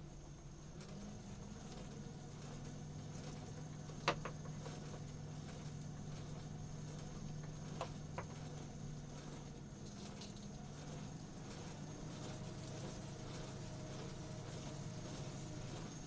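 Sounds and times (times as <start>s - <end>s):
alternator motor humming: 0.0s - 16.0s.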